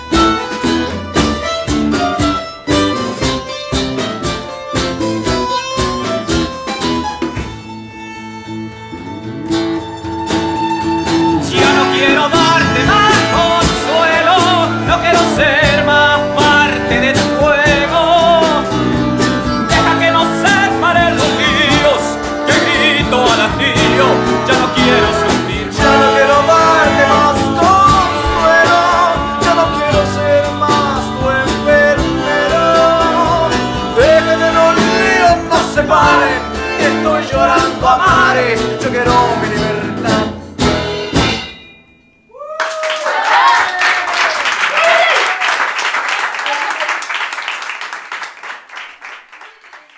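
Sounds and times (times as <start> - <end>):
drums: 0.0 - 8.0, 9.3 - 41.9
guitars: 0.0 - 42.3
bass: 0.0 - 42.6.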